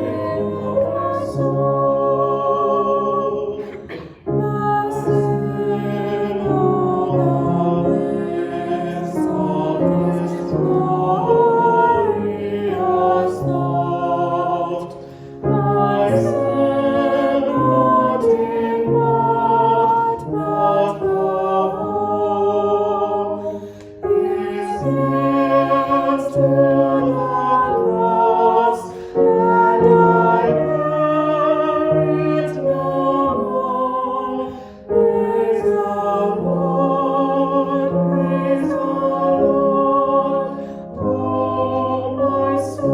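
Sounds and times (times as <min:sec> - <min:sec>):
hymn singing: 0:00.0 - 0:42.9.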